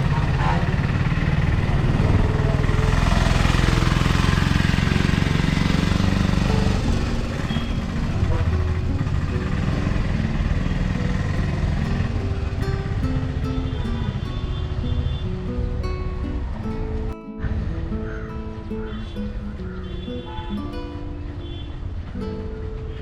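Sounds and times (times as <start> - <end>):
street traffic: 0.0 - 23.0
vehicle engine running close by: 0.0 - 23.0.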